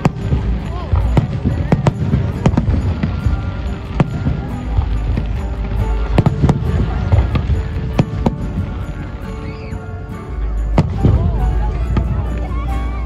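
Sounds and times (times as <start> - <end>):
fireworks bangs: 0.0 - 12.5.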